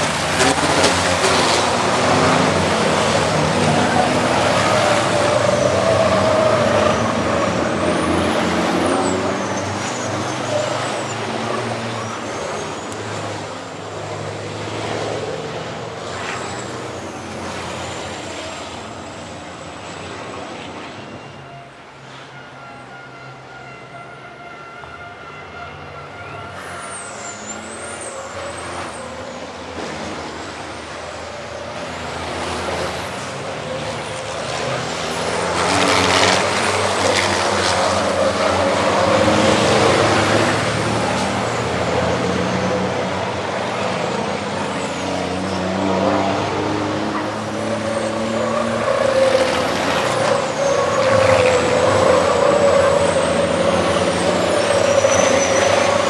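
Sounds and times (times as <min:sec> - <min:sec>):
racing truck diesel engines: 0:00.0 - 0:56.0.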